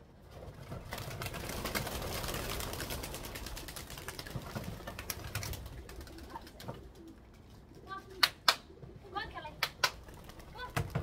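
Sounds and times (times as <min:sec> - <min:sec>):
pigeons wingbeats clattering: 0:00.2 - 0:11.0.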